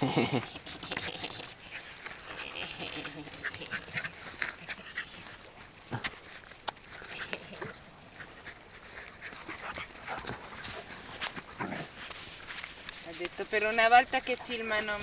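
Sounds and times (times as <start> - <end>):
dog steps on gravelly sand: 1.3 - 15.0.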